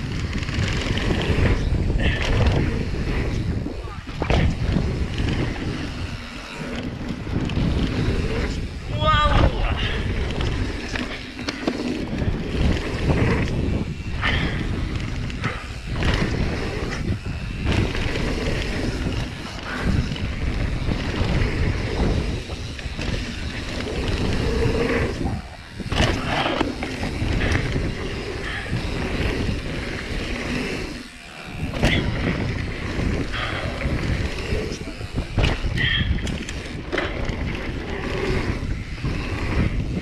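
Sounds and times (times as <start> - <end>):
bike rattling: 0.0 - 40.0
tyres rumbling over dirt: 0.0 - 40.0
wind buffeting microphone: 0.0 - 40.0.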